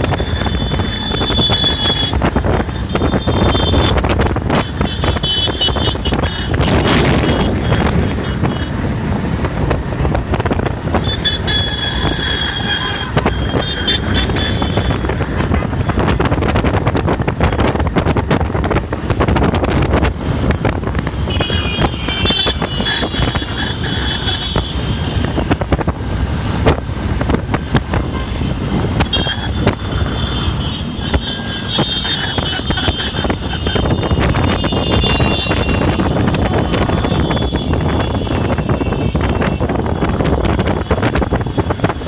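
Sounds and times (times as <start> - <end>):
wind buffeting microphone: 0.0 - 11.2, 13.0 - 42.0.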